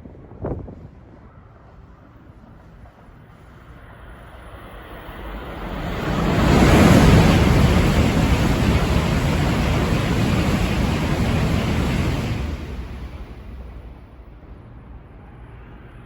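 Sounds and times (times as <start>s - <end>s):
high-speed train passing: 0.2s - 16.0s.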